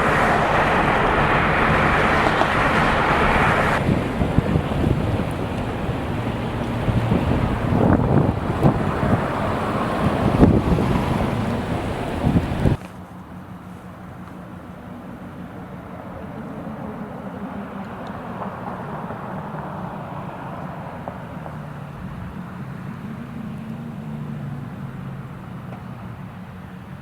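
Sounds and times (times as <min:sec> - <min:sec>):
road noise: 0:00.0 - 0:27.0
vehicle engine hum: 0:00.0 - 0:27.0.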